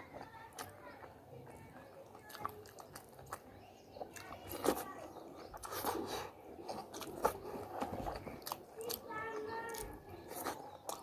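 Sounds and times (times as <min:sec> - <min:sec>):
person chewing: 0:02.0 - 0:11.0.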